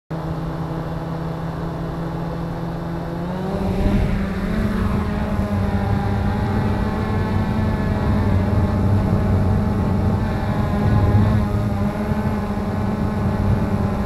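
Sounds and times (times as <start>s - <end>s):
drone motors humming: 0.1s - 14.0s.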